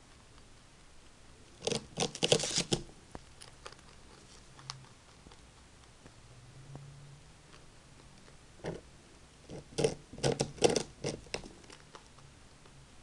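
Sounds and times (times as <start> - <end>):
rabbit gnawing and crunching: 0.0 - 13.0.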